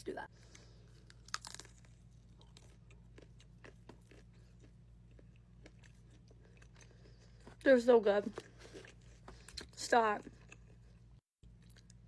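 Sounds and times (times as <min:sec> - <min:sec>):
faint chewing: 0:00.4 - 0:12.0.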